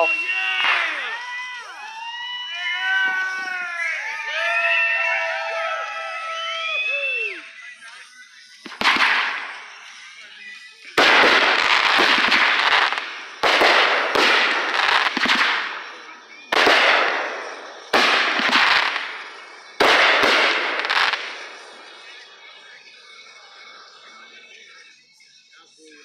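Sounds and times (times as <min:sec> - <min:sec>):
fireworks bangs with crackle: 0:00.0 - 0:06.5, 0:07.6 - 0:22.9.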